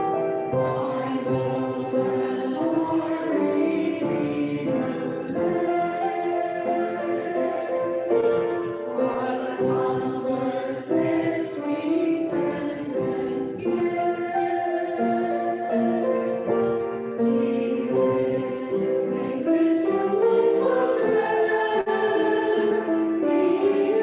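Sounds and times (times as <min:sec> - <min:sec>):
choir singing a hymn: 0:00.0 - 0:24.0
instrumental accompaniment: 0:00.0 - 0:24.0.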